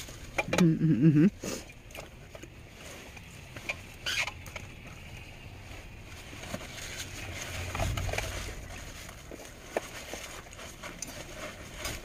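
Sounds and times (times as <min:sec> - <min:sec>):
vehicle cabin rumble: 0:00.0 - 0:12.0.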